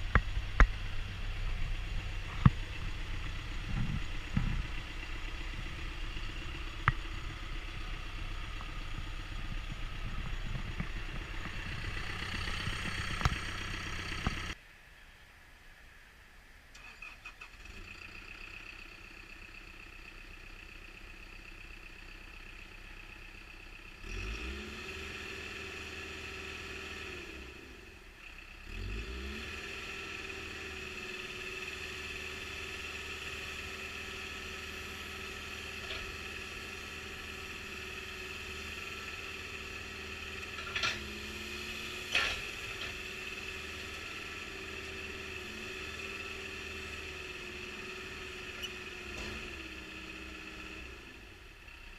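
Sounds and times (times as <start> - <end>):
diesel engine running: 0.0 - 14.6, 16.8 - 51.9.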